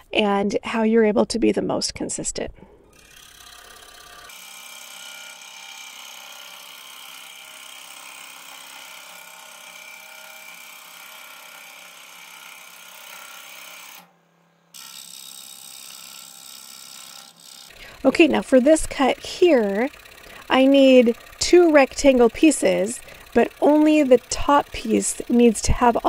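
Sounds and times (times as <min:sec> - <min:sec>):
scroll saw cutting plywood: 0:02.8 - 0:26.0.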